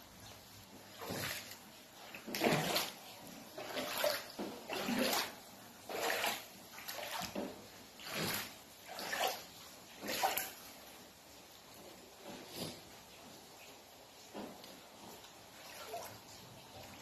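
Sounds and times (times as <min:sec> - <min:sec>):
water sloshing on floor: 0:00.0 - 0:17.0.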